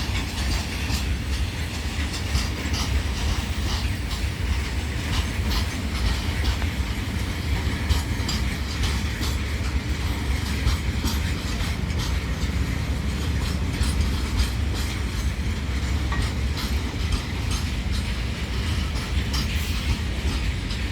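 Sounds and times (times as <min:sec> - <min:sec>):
train wheels rumbling on rails: 0:00.0 - 0:20.9
wheels clicking over rail joints: 0:00.0 - 0:20.9.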